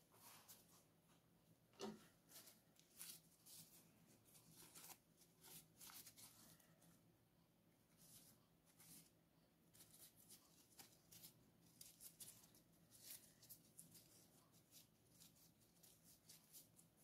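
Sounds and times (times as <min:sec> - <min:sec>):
paper tissue rustling: 0:00.0 - 0:01.2, 0:02.1 - 0:07.0, 0:07.9 - 0:17.0.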